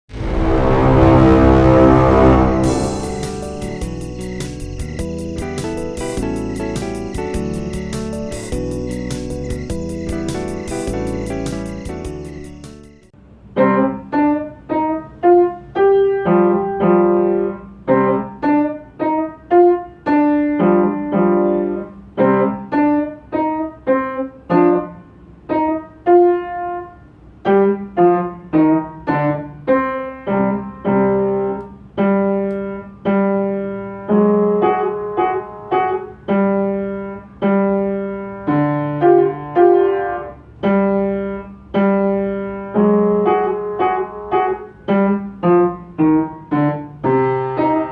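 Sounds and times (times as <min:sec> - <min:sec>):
solo piano playing: 0:00.1 - 0:13.0, 0:13.6 - 0:47.9.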